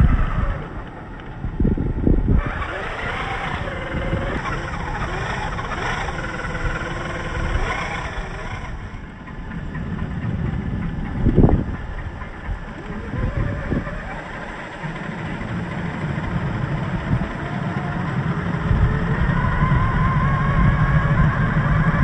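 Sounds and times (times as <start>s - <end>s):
electric motor whine: 0.0s - 22.0s
low rumble: 0.0s - 22.0s.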